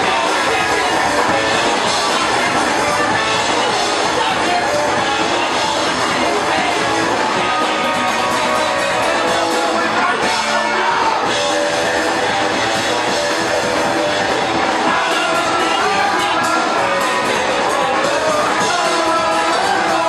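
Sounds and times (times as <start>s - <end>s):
bass guitar: 0.0s - 20.0s
drums: 0.0s - 20.0s
electric guitar: 0.0s - 20.0s
person singing: 0.0s - 20.0s.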